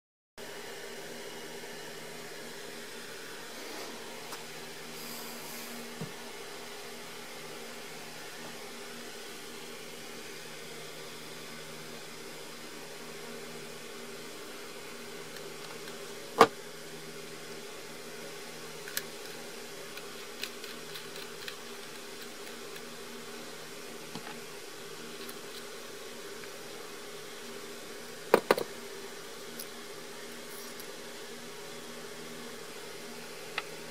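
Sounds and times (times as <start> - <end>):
low room hum: 0.4 - 33.9.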